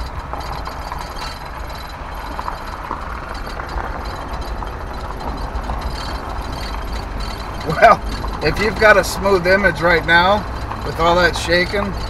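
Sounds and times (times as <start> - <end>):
small rattles and knocks: 0.0 - 12.0
truck cab road rumble: 0.0 - 12.0.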